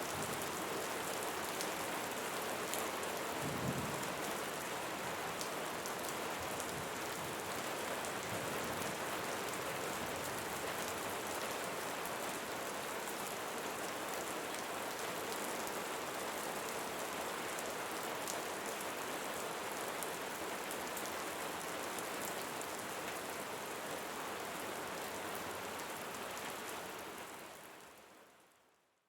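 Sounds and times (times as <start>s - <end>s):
rain falling on a surface: 0.0s - 28.9s.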